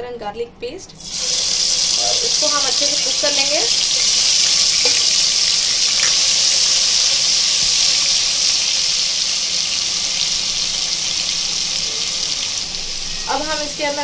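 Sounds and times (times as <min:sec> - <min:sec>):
paste sizzling in hot oil: 0:01.0 - 0:14.0.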